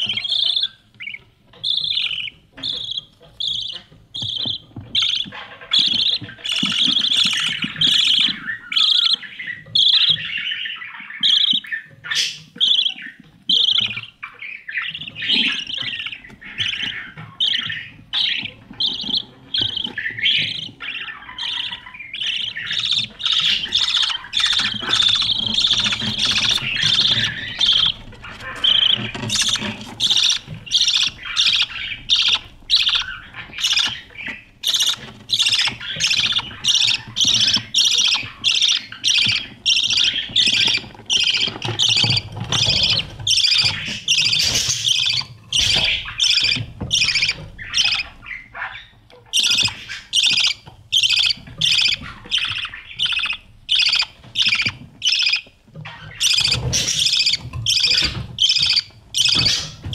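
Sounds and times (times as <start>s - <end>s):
budgerigars chirping and squawking: 0.0s - 59.9s.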